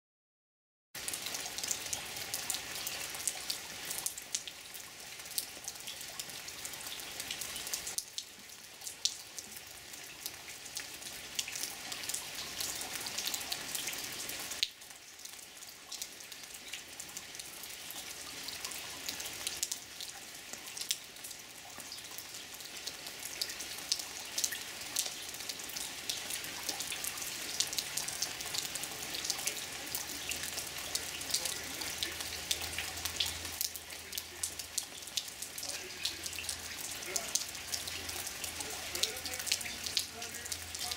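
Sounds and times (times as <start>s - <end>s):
steady rain falling: 1.0s - 40.9s.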